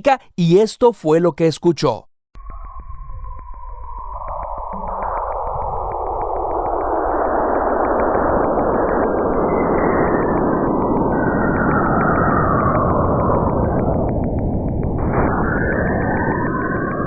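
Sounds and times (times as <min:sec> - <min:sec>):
downward gliding whistling tone: 0:02.4 - 0:17.0.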